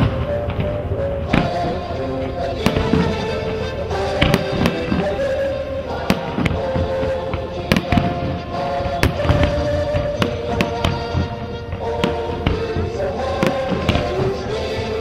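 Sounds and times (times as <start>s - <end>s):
fireworks bursting: 0.0s - 15.0s
music with held notes: 0.0s - 15.0s.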